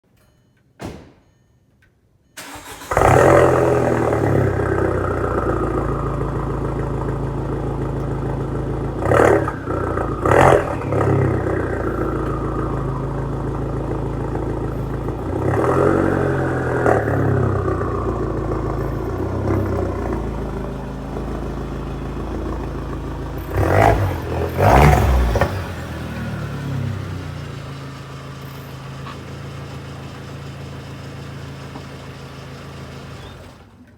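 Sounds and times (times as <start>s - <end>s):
car engine cranking and starting: 2.4s - 33.9s
car engine idling and revving: 2.4s - 33.9s.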